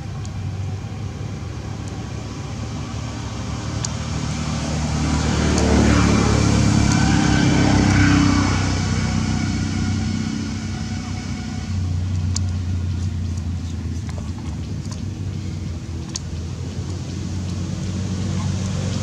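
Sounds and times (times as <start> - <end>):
low engine hum: 0.0 - 19.0
vehicle engine passing: 0.0 - 19.0.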